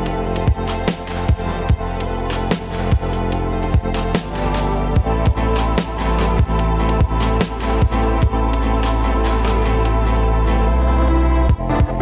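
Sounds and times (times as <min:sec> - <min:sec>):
deep steady bass note: 0:00.0 - 0:12.0
sustained chords: 0:00.0 - 0:12.0.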